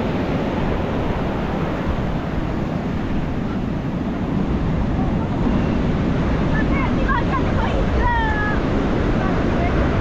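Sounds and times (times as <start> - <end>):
deep surf rumble: 0.0 - 10.0
ocean surf rushing: 0.0 - 10.0.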